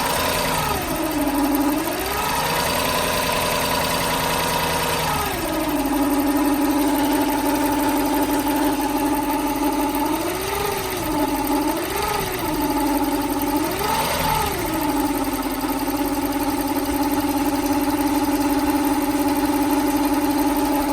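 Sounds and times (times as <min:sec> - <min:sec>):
car engine idling: 0:00.0 - 0:20.9
engine revving: 0:00.0 - 0:20.9.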